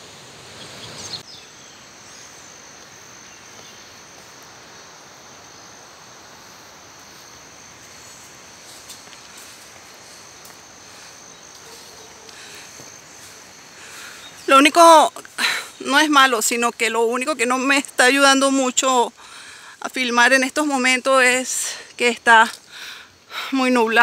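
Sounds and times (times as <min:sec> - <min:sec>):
crickets trilling: 0:00.0 - 0:24.0
soft outdoor hiss: 0:00.0 - 0:24.0.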